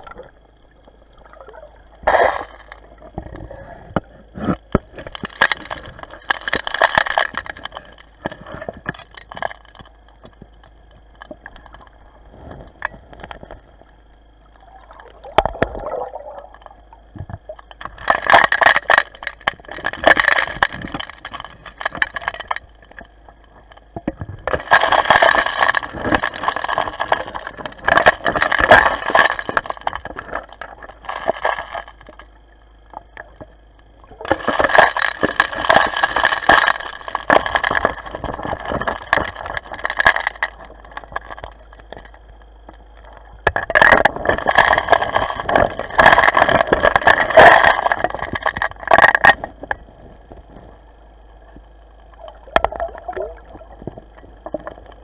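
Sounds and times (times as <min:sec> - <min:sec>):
faint steady whine: 0:00.0 - 0:55.0
underwater crackling and scraping: 0:00.0 - 0:55.0.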